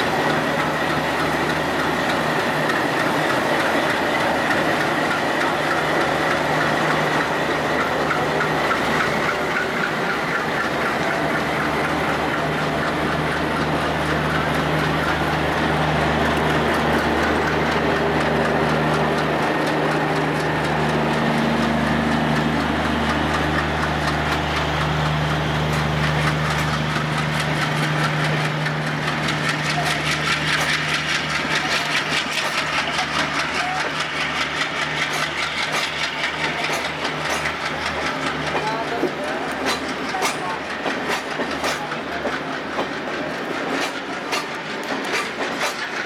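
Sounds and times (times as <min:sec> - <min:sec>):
diesel locomotive engine running: 0:00.0 - 0:46.0
wheels clicking over rail joints: 0:00.0 - 0:46.0.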